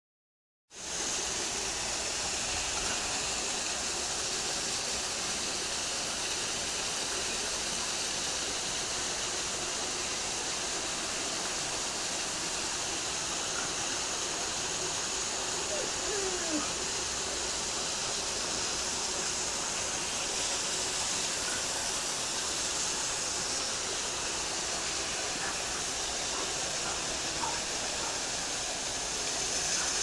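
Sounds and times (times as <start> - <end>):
steady rushing hiss: 0.7 - 30.0.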